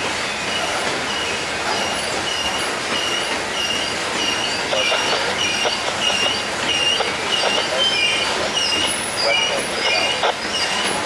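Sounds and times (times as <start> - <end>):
freight train rumbling past: 0.0 - 11.0
train trucks knocking: 0.0 - 11.0
train wheels squealing: 0.2 - 11.0.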